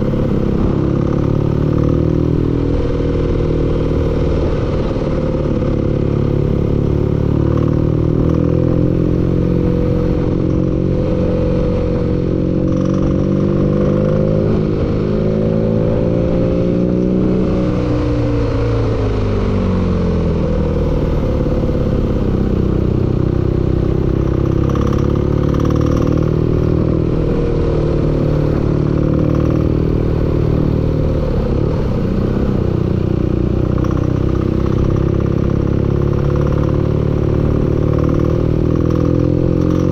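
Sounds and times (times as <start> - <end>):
engine running with a knock: 0.0 - 17.2, 20.2 - 39.9.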